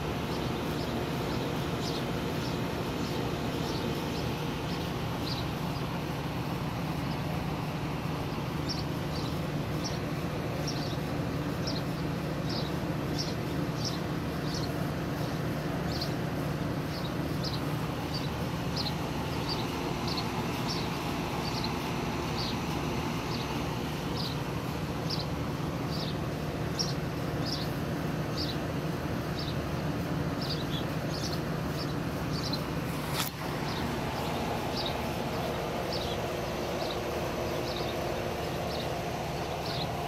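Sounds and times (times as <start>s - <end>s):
small bird chirping: 0.0s - 7.5s, 8.1s - 40.0s
steady low hum: 0.0s - 40.0s.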